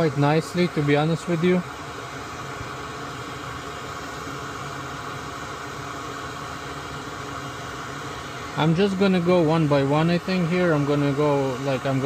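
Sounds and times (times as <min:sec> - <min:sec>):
small fan motor whirring: 0:00.0 - 0:12.0.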